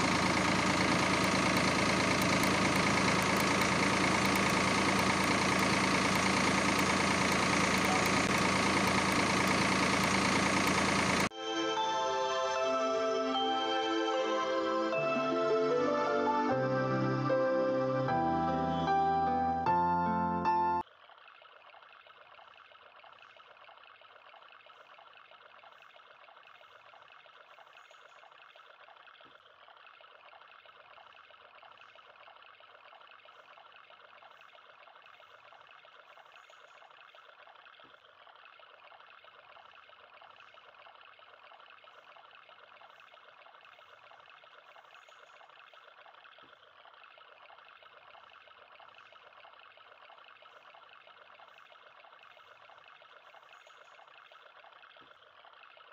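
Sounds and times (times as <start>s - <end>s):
water trickling from pipe: 0.0s - 11.3s, 20.8s - 55.9s.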